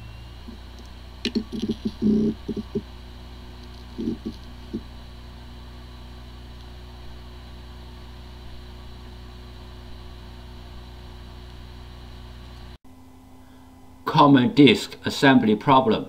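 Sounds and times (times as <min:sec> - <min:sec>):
hard disk drive spinning: 0:00.0 - 0:14.0.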